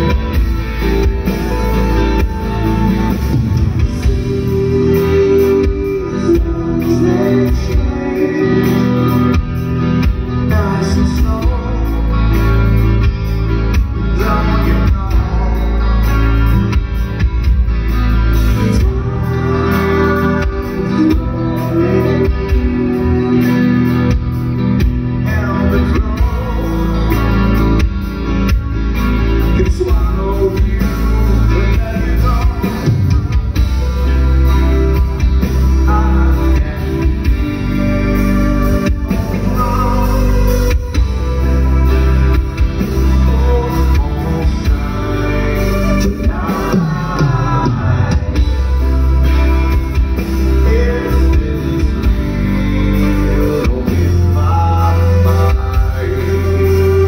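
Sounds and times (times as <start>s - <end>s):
male lead vocal singing: 0.0s - 16.8s, 18.3s - 24.3s, 25.2s - 27.9s, 29.4s - 57.0s
bass guitar: 0.0s - 57.0s
drums: 0.0s - 57.0s
electric guitar: 0.0s - 57.0s.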